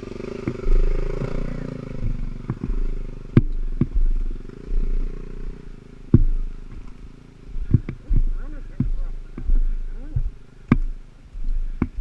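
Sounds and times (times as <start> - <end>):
dirt bike engine at low revs: 0.0 - 12.0
sharp knocks: 0.0 - 12.0.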